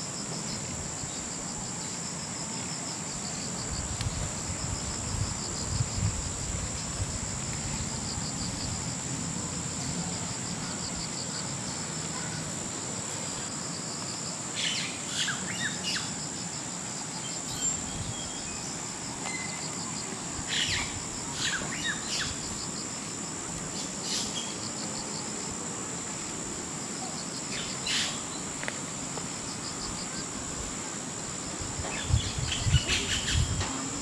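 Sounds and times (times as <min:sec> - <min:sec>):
high-pitched insect trill: 0:00.0 - 0:34.0.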